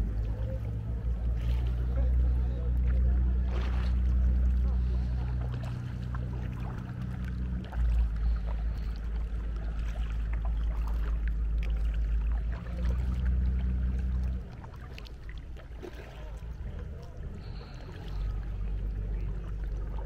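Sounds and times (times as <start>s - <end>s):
canoe paddling water splashes: 0.0s - 20.0s
low rumble: 0.0s - 20.0s.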